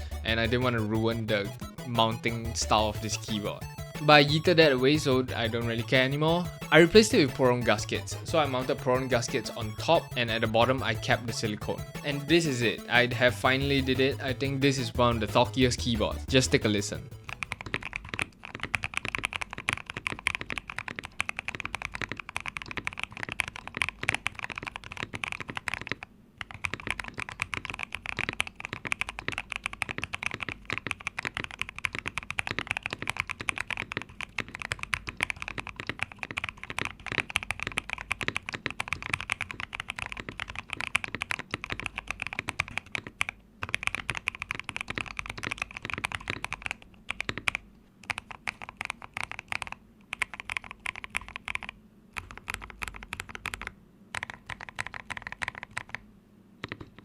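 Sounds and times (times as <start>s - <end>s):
fast mechanical keyboard typing: 0.0s - 56.0s, 56.6s - 57.0s.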